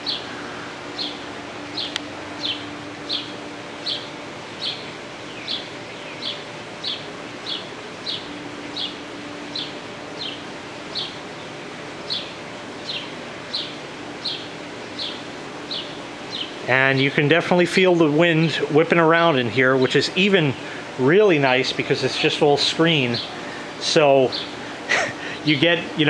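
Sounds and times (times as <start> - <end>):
ceiling fan running: 0.0 - 26.0.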